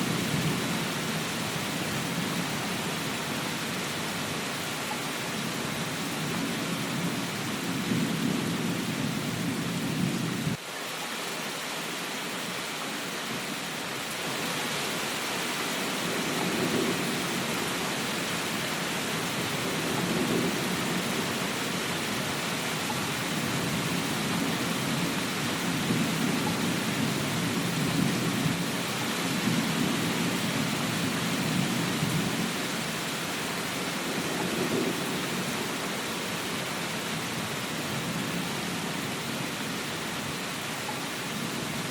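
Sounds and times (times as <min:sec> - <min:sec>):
rain hissing: 0:00.0 - 0:41.9.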